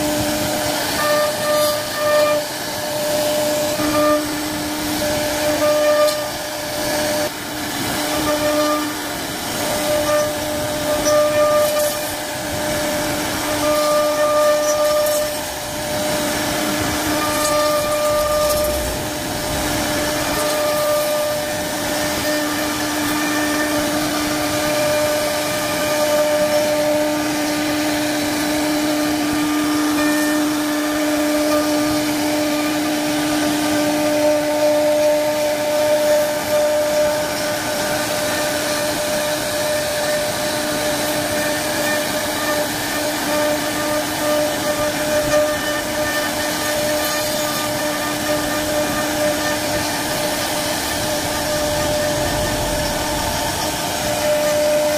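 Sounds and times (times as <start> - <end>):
router bit cutting wood: 0.0 - 54.9
router spindle whine: 0.0 - 54.9.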